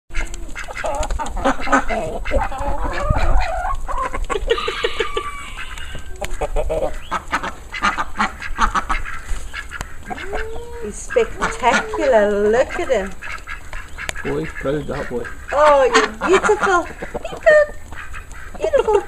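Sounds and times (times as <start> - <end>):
poultry calling: 0.1 - 19.0.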